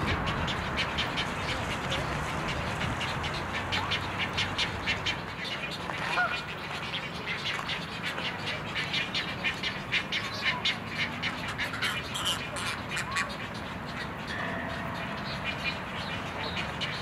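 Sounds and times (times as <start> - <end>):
young egrets calling: 0.0 - 17.0.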